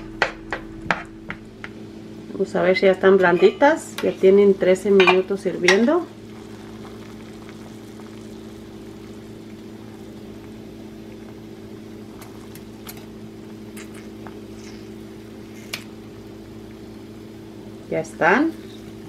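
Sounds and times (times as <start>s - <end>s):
pot boiling: 0.0s - 19.0s.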